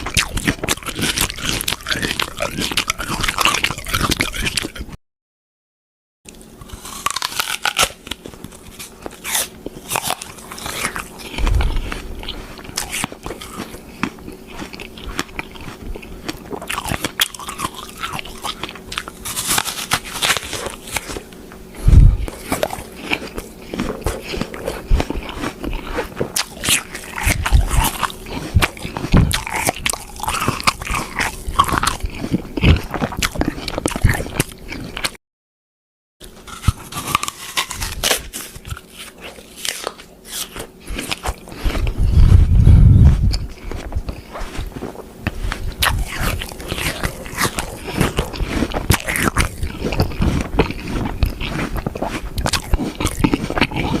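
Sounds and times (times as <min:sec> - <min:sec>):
chewing crunchy food: 0:00.0 - 0:05.0, 0:06.3 - 0:35.2, 0:36.2 - 0:54.0
faint steady hum: 0:06.3 - 0:35.1, 0:36.2 - 0:54.0.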